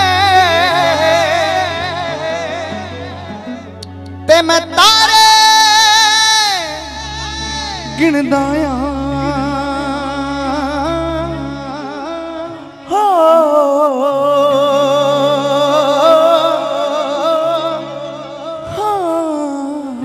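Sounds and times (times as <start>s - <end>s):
man singing long held notes: 0.0s - 20.0s
sustained backing chords: 0.0s - 20.0s.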